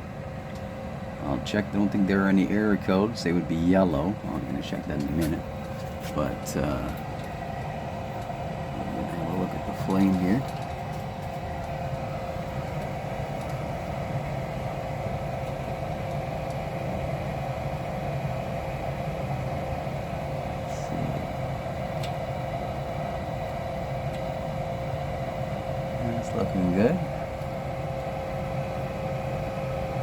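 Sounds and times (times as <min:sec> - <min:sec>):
constant whining tone: 0:00.0 - 0:30.0
gas furnace fans humming: 0:00.0 - 0:30.0.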